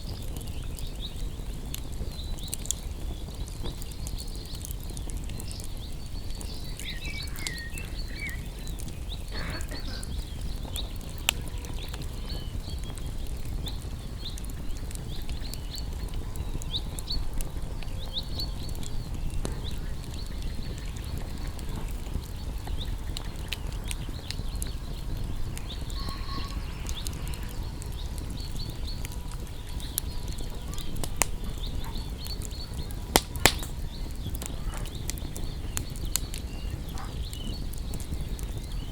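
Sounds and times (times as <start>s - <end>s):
campfire crackling: 0.0s - 38.9s
low rumble of flames: 0.0s - 38.9s
sharp pops of fire: 0.0s - 38.9s.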